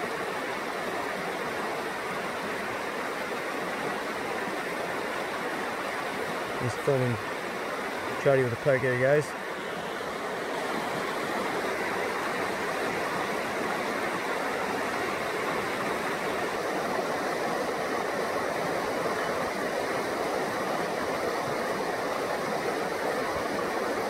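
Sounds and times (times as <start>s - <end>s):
rushing stream: 0.0s - 24.0s.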